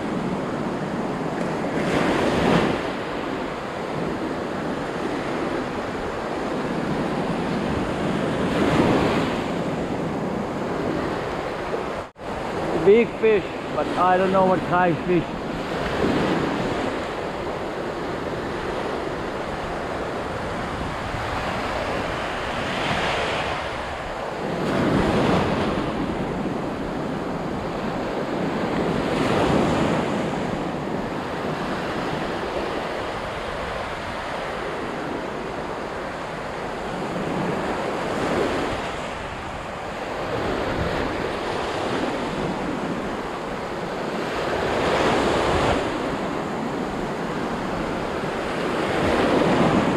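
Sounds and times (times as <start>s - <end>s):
ocean waves breaking: 0.0s - 49.9s
wind rumbling on microphone: 0.0s - 49.9s.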